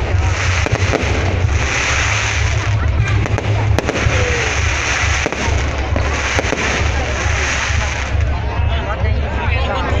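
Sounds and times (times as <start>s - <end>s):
sharp firework cracks: 0.0s - 8.3s
fireworks crackling: 0.0s - 8.8s.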